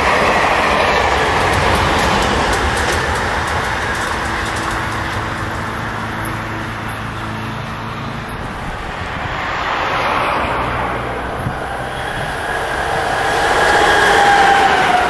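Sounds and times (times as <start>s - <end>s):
diesel locomotive engine hum: 0.0s - 15.0s
train wheels rumbling on rail: 0.0s - 15.0s.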